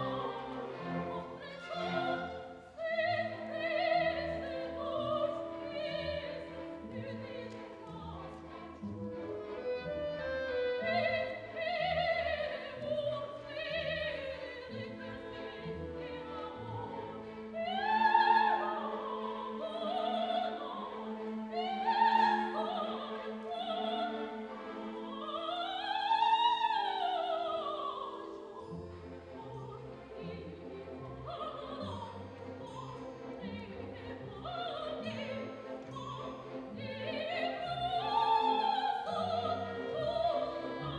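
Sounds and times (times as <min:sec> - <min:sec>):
soprano singing: 0:00.0 - 0:40.9
symphony orchestra: 0:00.0 - 0:40.9.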